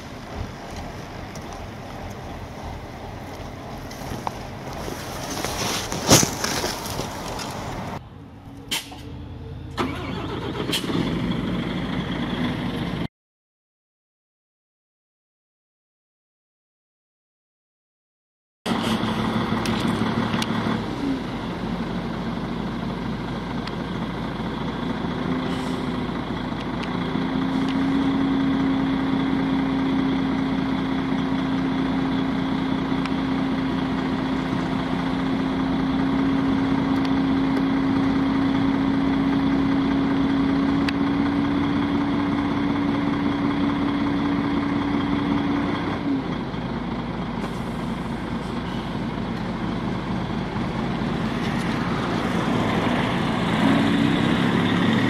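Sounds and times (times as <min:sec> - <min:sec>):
vehicle engine running: 0:00.0 - 0:13.1, 0:18.7 - 0:55.0.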